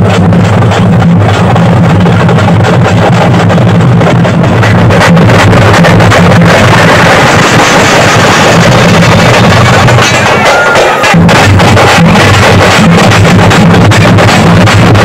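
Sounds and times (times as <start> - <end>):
barrel drums beaten with sticks: 0.0 - 15.0.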